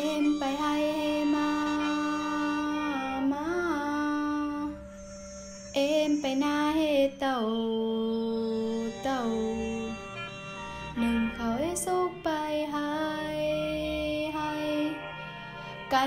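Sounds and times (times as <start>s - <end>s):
melody of bending held notes: 0.0s - 16.0s.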